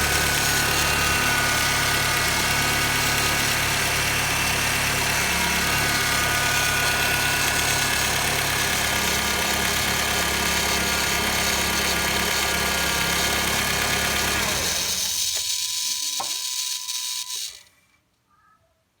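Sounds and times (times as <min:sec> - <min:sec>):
high grinding noise: 0:00.0 - 0:17.7.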